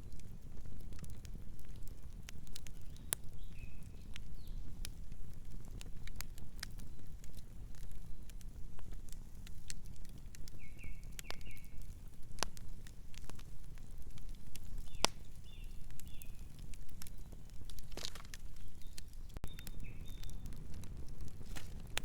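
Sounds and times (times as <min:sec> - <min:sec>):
campfire wood crackling: 0:00.0 - 0:22.0.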